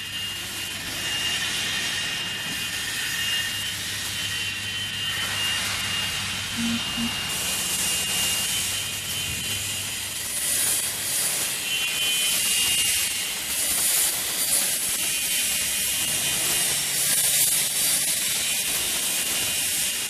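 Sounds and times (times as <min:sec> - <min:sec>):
electric saw cutting wood: 0:00.0 - 0:20.0.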